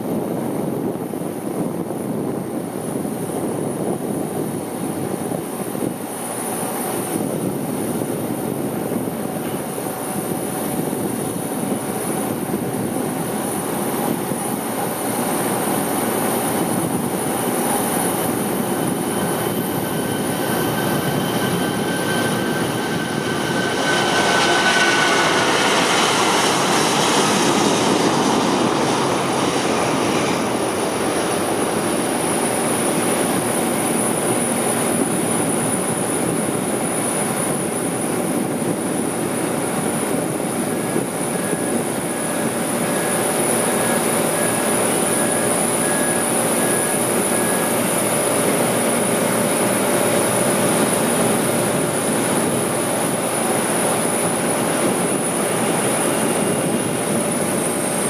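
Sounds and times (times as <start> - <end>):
high jet whine: 0.0 - 58.0
jet engines roaring: 0.0 - 58.0.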